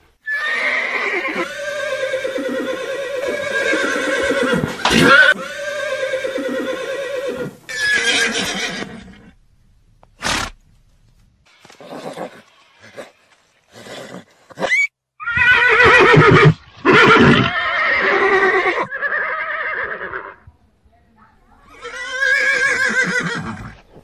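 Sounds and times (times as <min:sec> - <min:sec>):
horses neighing: 0:00.2 - 0:09.4, 0:10.1 - 0:10.6, 0:11.6 - 0:20.4, 0:21.6 - 0:24.0.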